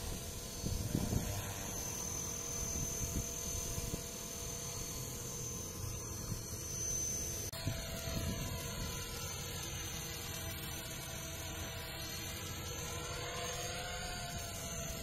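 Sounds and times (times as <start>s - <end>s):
helicopter rotor noise: 0.0s - 15.0s
rc helicopter high whine: 0.0s - 15.0s.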